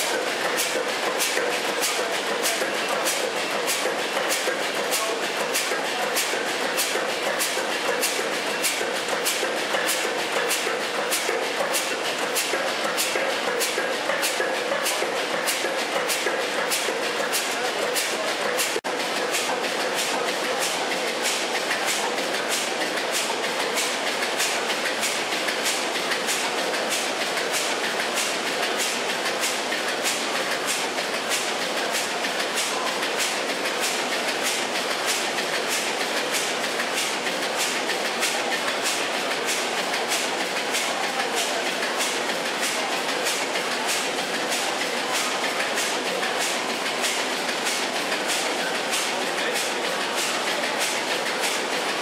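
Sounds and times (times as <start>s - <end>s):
machinery clattering: 0.0s - 52.0s.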